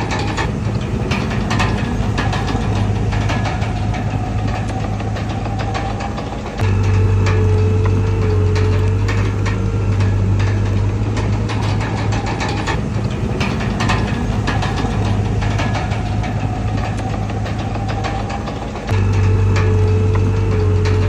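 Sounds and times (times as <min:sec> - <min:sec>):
bulldozer diesel engine running: 0:00.0 - 0:21.0
metallic clanking of tracks: 0:00.0 - 0:21.0.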